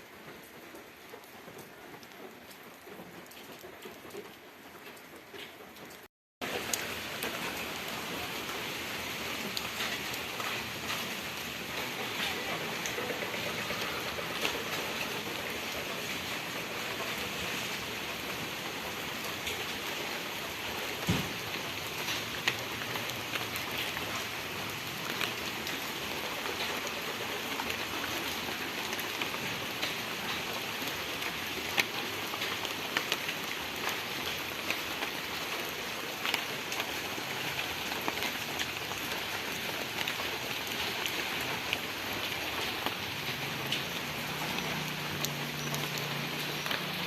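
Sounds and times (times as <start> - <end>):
raindrops pattering: 0.0 - 47.0.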